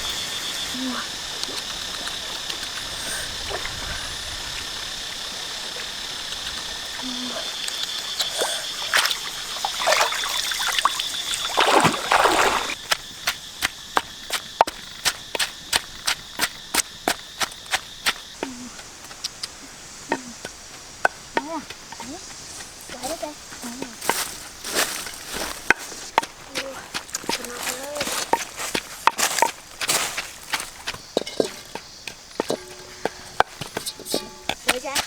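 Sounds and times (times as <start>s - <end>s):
water splashing and trickling: 0.0s - 12.9s, 18.5s - 35.0s
high-pitched background hum: 0.0s - 35.0s.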